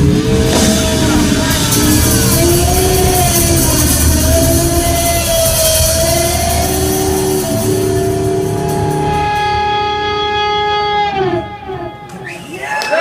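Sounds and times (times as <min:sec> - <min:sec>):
electric guitar sustained note: 0:00.0 - 0:12.4
rock band playing: 0:00.0 - 0:13.0.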